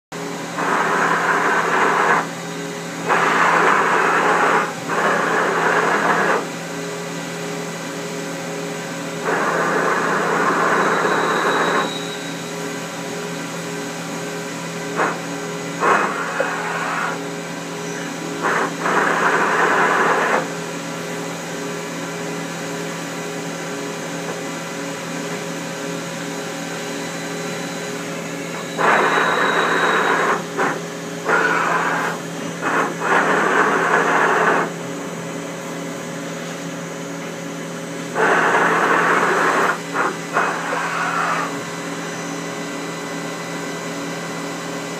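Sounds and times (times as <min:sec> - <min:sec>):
lathe machine hum: 0:00.2 - 0:44.9.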